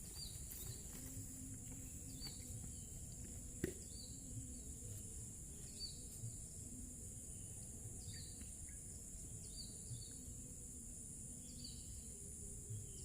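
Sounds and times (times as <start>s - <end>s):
cricket chirps: 0.0s - 13.0s
insects droning: 0.0s - 13.0s.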